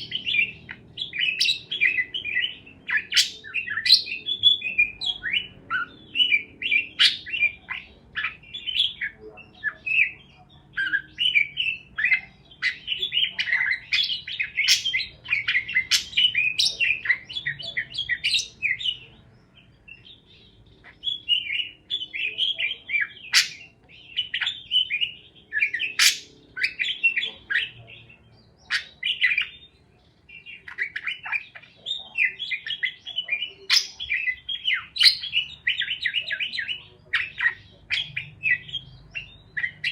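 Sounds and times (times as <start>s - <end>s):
parakeets chirping: 0.0s - 39.9s.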